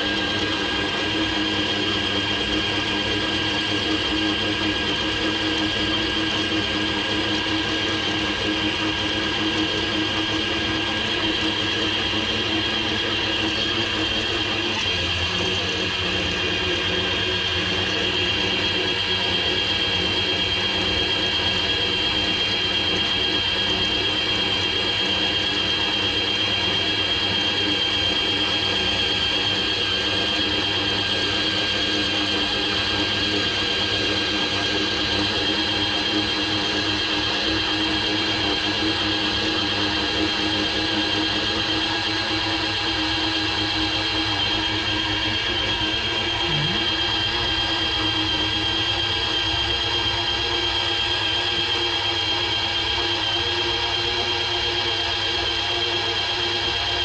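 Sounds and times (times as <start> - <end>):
electric fishing reel motor whine: 0.0 - 57.0.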